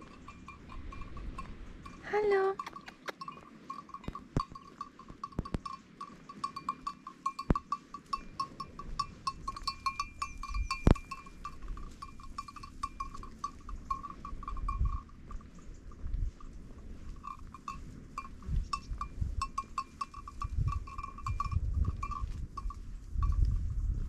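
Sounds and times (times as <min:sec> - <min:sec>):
goat bells clinking: 0:00.0 - 0:24.0.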